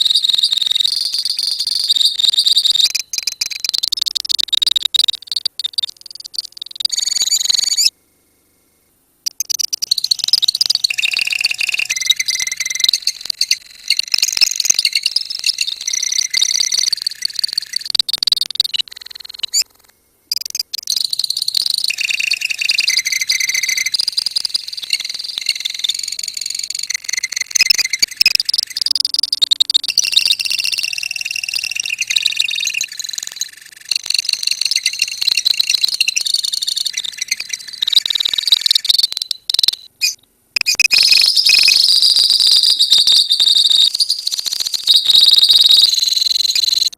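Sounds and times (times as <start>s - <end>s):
lovebirds chattering and trilling: 9.3s - 46.9s.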